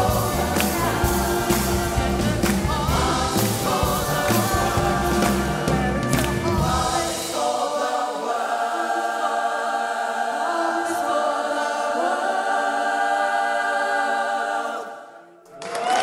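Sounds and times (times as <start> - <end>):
choir holding a chord: 0.0 - 15.8.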